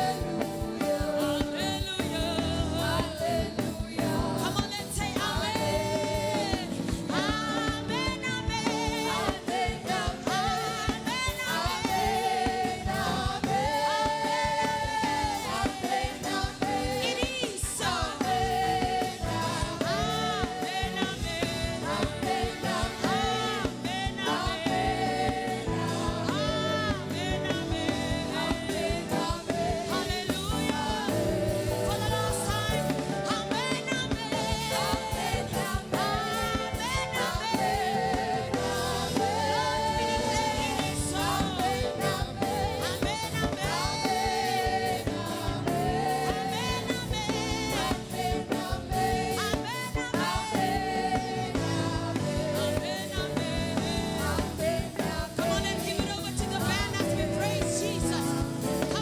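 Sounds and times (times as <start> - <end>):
gospel song with vocals: 0.0 - 59.0.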